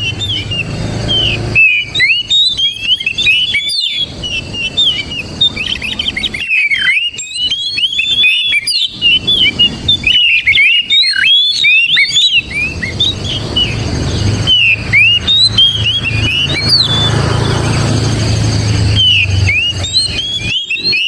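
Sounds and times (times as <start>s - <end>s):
bird singing whistled phrases: 0.0s - 21.0s.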